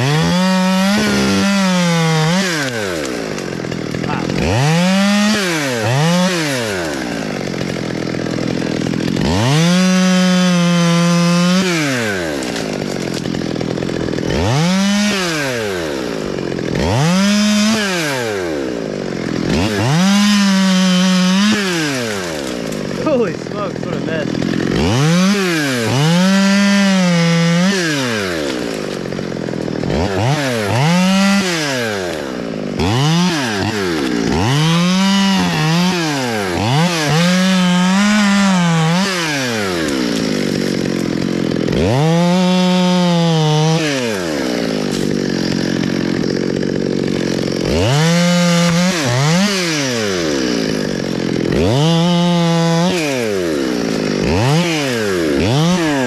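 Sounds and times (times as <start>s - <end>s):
chainsaw revving and idling: 0.0s - 56.0s.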